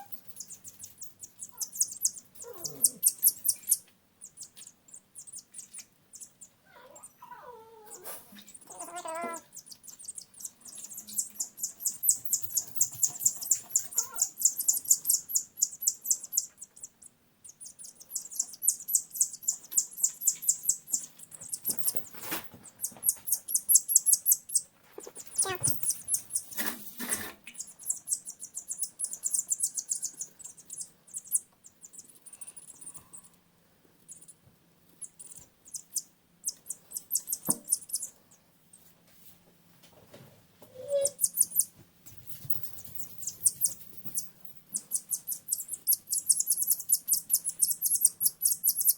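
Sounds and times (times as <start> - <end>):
baby chicks peeping: 0.0 - 33.4, 34.0 - 38.9, 40.7 - 48.9.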